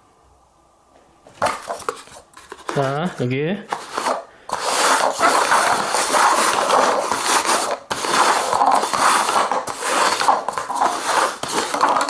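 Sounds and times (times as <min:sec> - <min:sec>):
paper cups sliding on table: 0:01.3 - 0:12.0.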